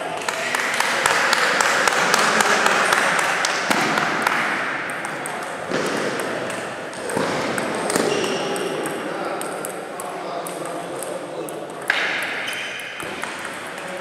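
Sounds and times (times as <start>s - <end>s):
sports hall hubbub: 0.0s - 14.0s
table tennis balls clicking: 2.1s - 14.0s.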